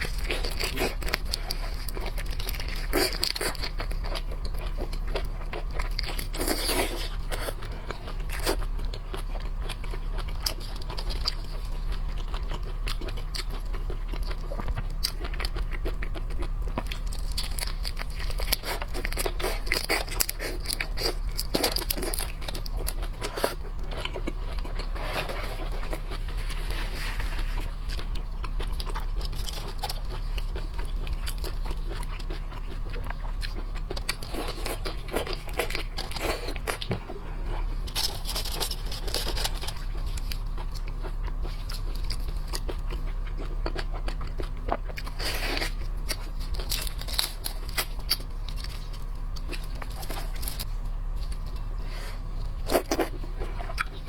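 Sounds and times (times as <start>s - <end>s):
shellfish crunching and chewing: 0.0s - 54.0s
steady low hum: 0.0s - 54.0s.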